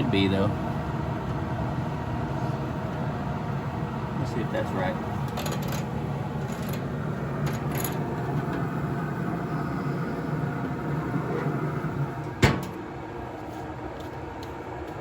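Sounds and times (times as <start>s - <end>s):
pellet grill humming: 0.0s - 15.0s.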